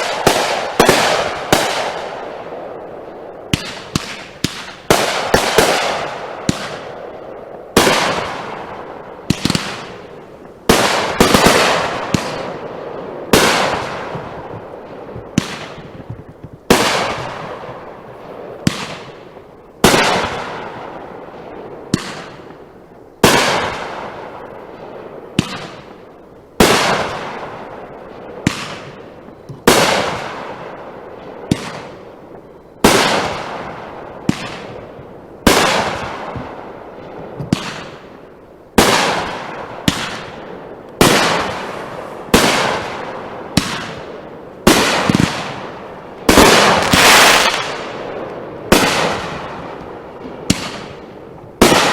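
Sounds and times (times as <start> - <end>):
fireworks bangs with crackle: 0.0 - 51.9.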